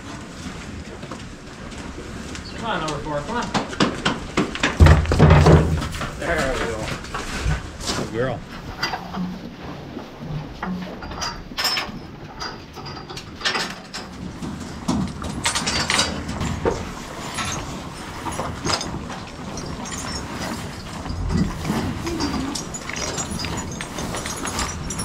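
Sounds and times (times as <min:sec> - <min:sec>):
metal barn fittings clanking: 0:02.6 - 0:09.7, 0:10.3 - 0:25.0.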